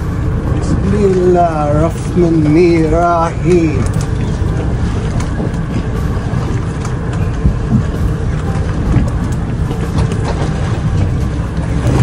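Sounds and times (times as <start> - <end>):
outboard motor running: 0.0 - 12.0
wind on microphone: 0.0 - 12.0.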